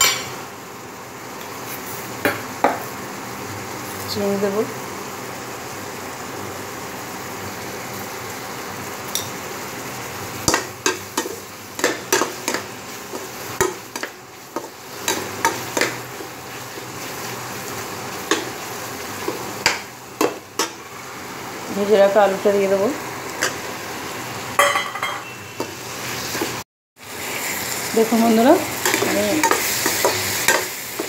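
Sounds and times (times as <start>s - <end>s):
masala sizzling in a metal pan: 0.0s - 31.0s.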